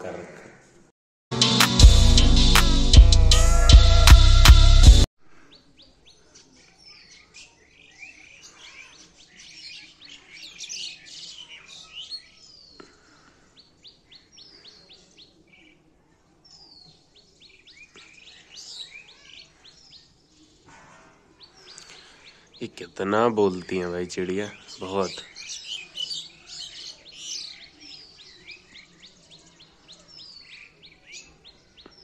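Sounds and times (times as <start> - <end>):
small birds chirping: 5.3 - 32.0.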